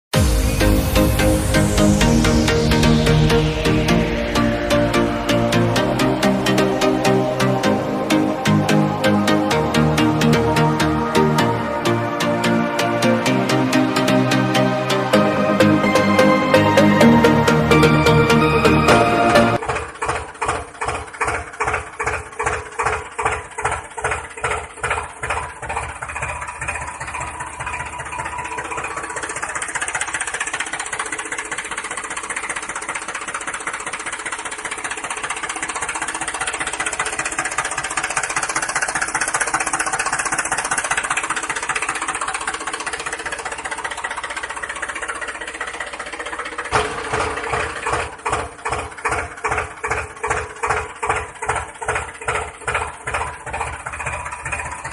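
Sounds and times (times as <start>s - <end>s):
toy tractor engine chugging: 1.9s - 54.9s.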